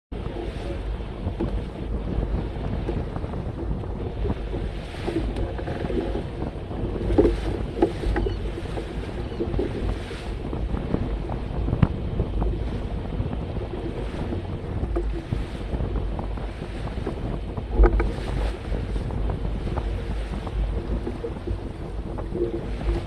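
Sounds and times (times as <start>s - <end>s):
water rushing along hull: 0.1s - 23.0s
wind buffeting microphone: 0.1s - 23.0s.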